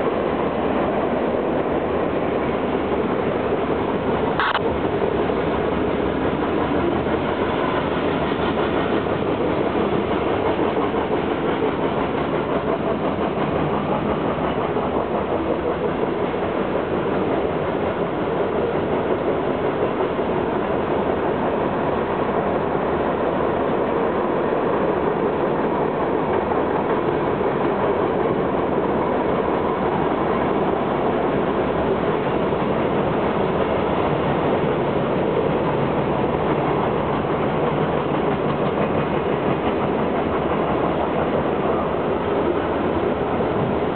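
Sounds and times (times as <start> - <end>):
freight train rolling past: 0.0 - 43.9
steel wheels clattering on rail: 0.0 - 43.9.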